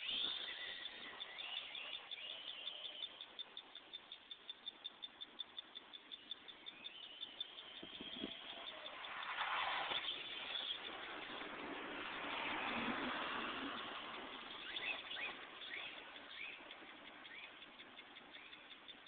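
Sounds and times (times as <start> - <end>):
high chirps: 0.0 - 19.0.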